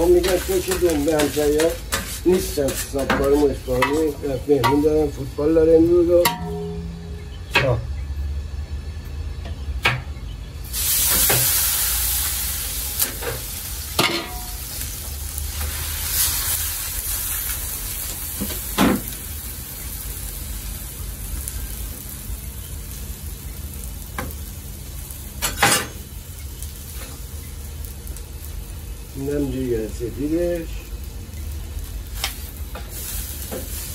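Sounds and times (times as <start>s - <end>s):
meat sizzling in a pan: 0.0s - 6.2s, 10.6s - 33.9s
low steady hum: 0.0s - 33.9s.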